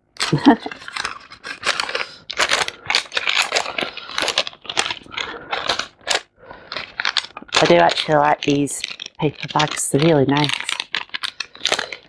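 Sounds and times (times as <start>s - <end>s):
paper bag rustling: 0.2s - 12.0s.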